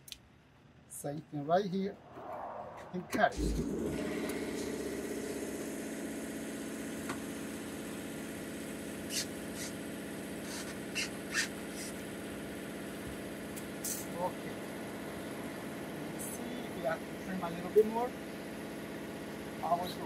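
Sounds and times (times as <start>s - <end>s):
steady motor hum: 3.2s - 20.0s.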